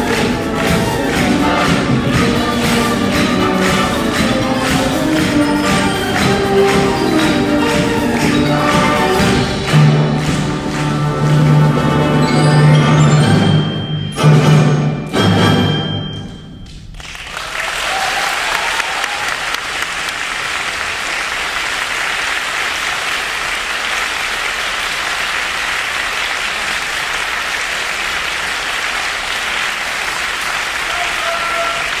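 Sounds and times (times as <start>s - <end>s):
audience applause: 0.0s - 13.4s, 17.0s - 32.0s.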